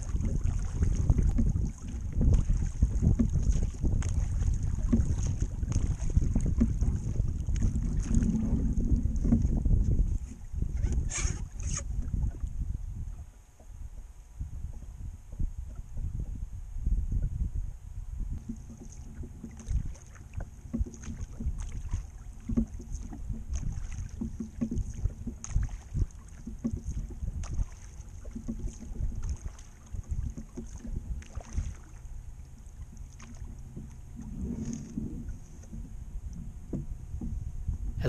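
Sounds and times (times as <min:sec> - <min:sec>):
oars knocking in oarlocks: 0:00.0 - 0:12.4, 0:18.3 - 0:38.0
oar splashes: 0:00.0 - 0:16.4, 0:18.3 - 0:38.0
wind rumbling on microphone: 0:00.0 - 0:38.0.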